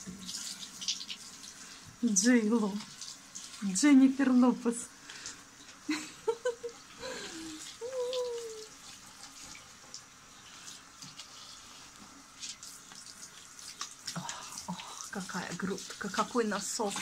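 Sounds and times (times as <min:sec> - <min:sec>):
shower water splashing: 0:00.0 - 0:17.0.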